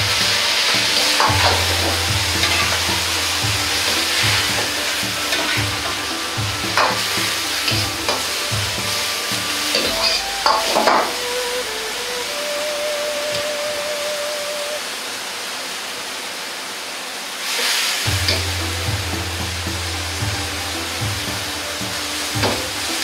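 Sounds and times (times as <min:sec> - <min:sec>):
cabbage sizzling in a wok: 0:00.0 - 0:12.6, 0:16.4 - 0:23.0.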